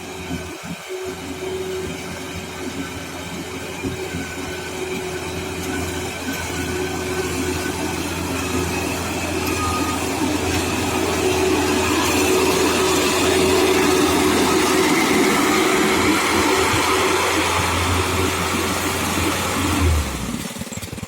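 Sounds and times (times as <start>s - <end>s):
combine harvester humming: 0.0s - 21.0s.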